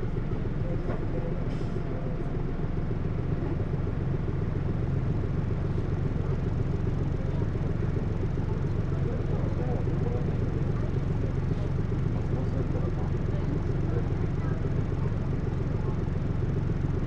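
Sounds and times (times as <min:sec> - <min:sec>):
bus engine low drone: 0:00.0 - 0:17.0.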